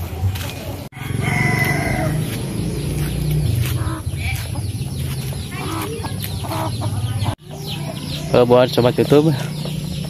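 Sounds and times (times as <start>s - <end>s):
chickens clucking: 0.4s - 10.0s.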